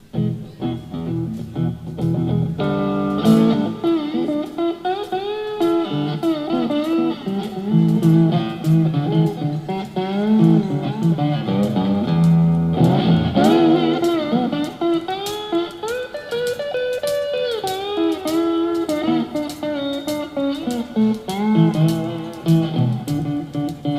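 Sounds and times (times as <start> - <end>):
electric guitar lead: 0.0 - 23.9
live blues band playing: 0.0 - 23.9.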